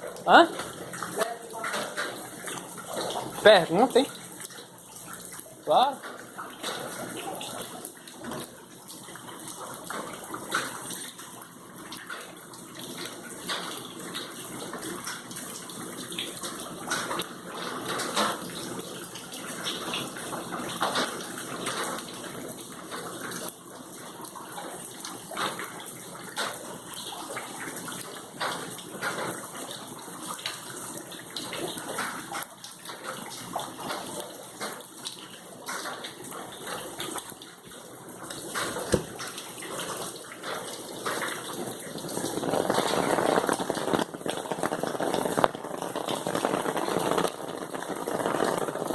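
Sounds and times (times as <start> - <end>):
water running and splashing: 0.0 - 48.9.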